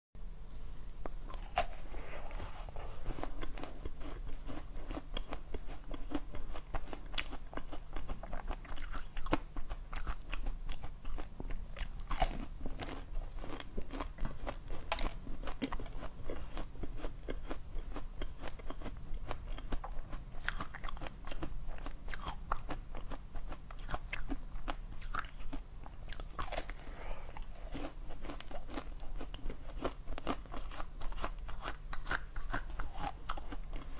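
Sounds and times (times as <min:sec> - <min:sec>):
crunchy biting and chewing: 0:01.2 - 0:33.9.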